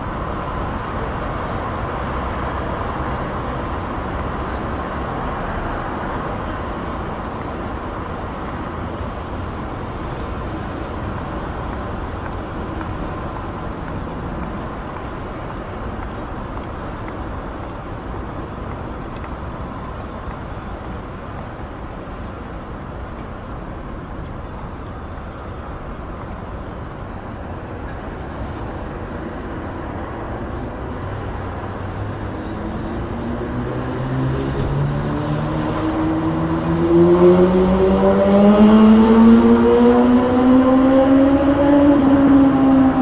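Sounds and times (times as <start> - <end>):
distant motorway traffic: 0.0 - 43.0.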